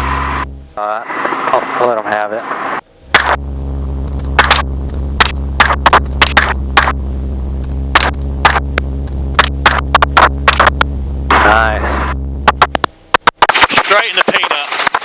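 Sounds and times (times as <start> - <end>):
helicopter low hum: 0.0 - 15.0.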